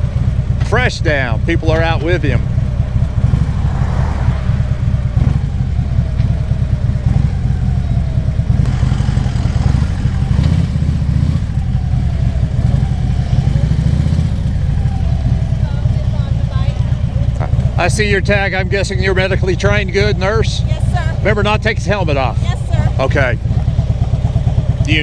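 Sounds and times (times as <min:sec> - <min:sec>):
motorcycle engine idling low: 0:00.0 - 0:25.0.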